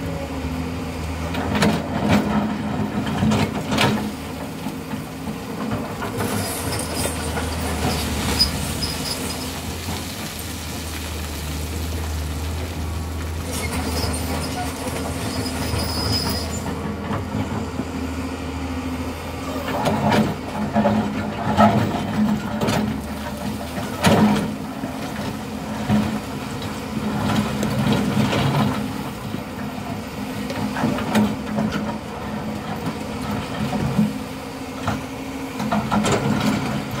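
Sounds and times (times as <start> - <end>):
excavator engine running: 0.0 - 37.0
excavator knocks and clunks: 1.2 - 10.4, 13.3 - 18.0, 19.4 - 37.0.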